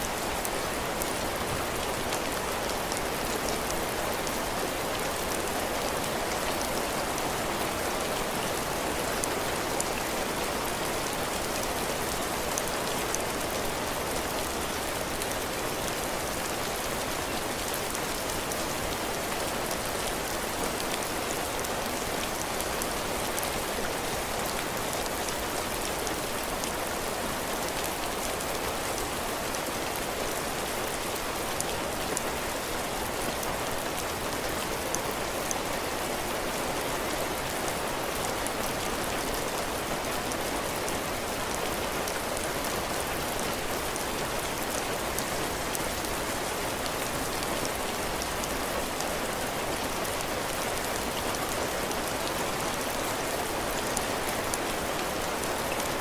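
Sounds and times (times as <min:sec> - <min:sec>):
heavy rain on a roof: 0:00.0 - 0:56.0.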